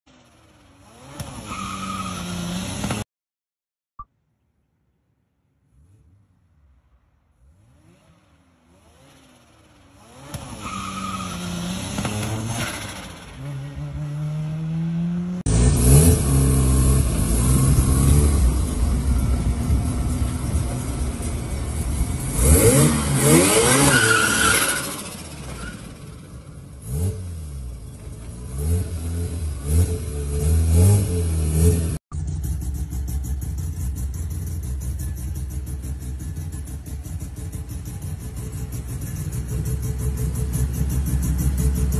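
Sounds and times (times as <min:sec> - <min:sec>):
rotary car engine revving: 0:00.1 - 0:03.0, 0:07.4 - 0:41.9.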